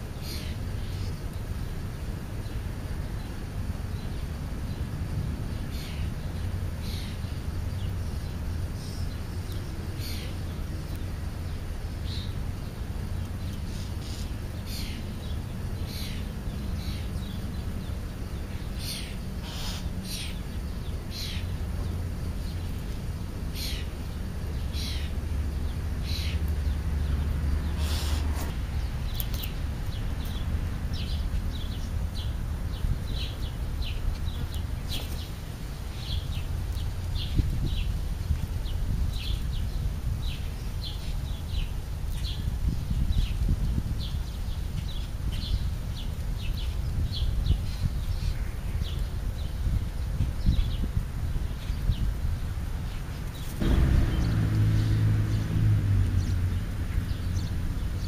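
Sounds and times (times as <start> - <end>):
low outdoor rumble: 0.0 - 44.0, 52.1 - 58.0
small birds chirping: 0.0 - 58.0.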